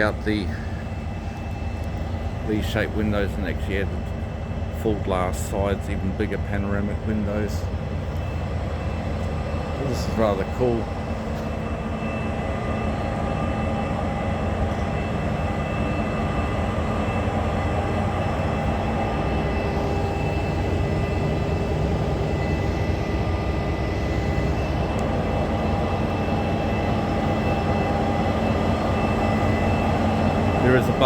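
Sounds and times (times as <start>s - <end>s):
stationary train humming: 0.0s - 31.0s.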